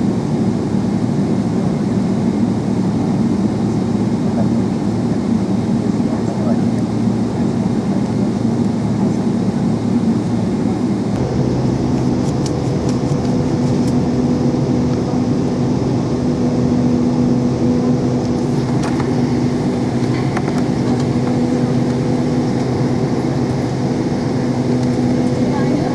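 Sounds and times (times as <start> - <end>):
jet engine cabin rumble: 0.0 - 25.9
steady hum tone: 0.0 - 25.9.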